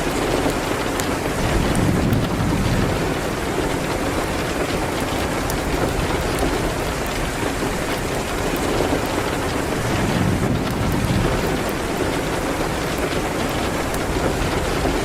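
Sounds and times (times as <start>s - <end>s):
rain hitting a window: 0.0s - 15.0s.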